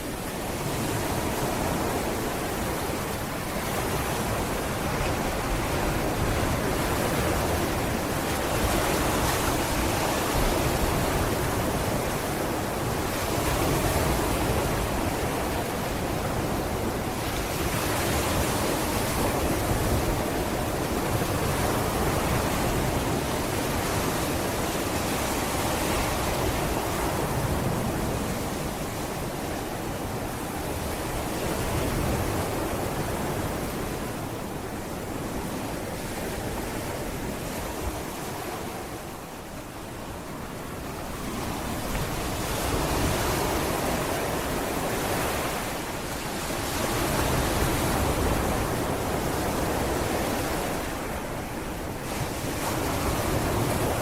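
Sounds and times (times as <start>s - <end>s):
sea waves breaking on a beach: 0.0s - 54.0s.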